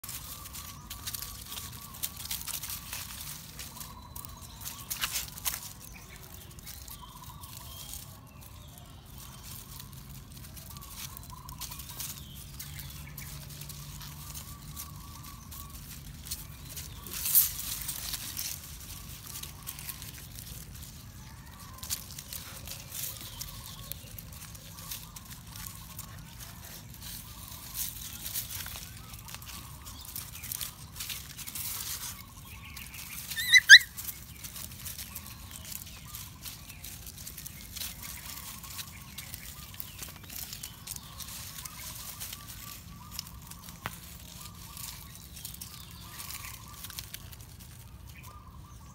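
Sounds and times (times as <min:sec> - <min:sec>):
dry leaves rustling and crackling: 0:00.0 - 0:48.9.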